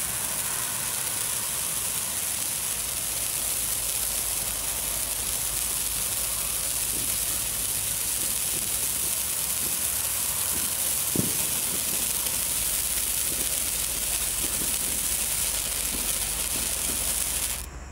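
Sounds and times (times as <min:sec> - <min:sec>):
sparkler hissing: 0:00.0 - 0:17.9.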